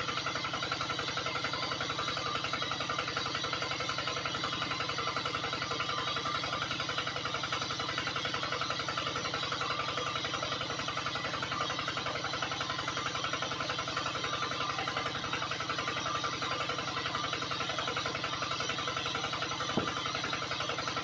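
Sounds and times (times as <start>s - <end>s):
small electric pump motor buzzing: 0.0s - 21.0s.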